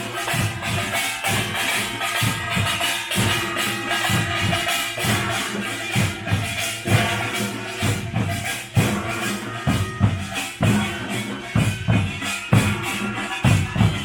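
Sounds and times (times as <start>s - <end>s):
bright percussion clatter: 0.0s - 14.0s.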